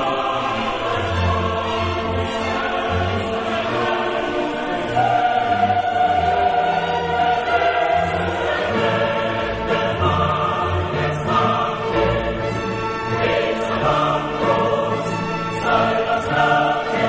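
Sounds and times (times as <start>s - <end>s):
choir singing long held notes: 0.0s - 17.0s
orchestra: 0.0s - 17.0s.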